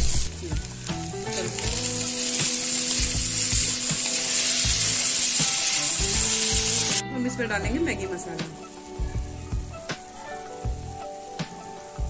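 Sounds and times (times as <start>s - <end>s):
background music: 0.0s - 12.0s
masala sizzling in a pan: 0.0s - 12.0s.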